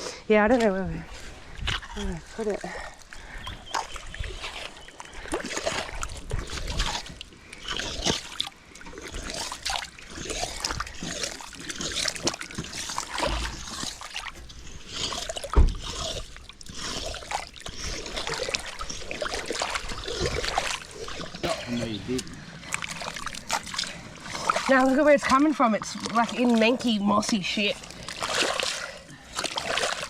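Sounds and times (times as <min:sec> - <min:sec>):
puddle water splashing: 0:00.4 - 0:30.0.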